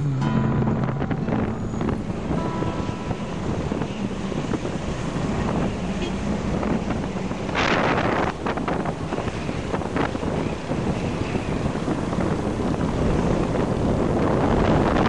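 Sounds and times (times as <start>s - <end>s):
motorcycle road noise: 0.0s - 15.0s
wind rushing over microphone: 0.0s - 15.0s.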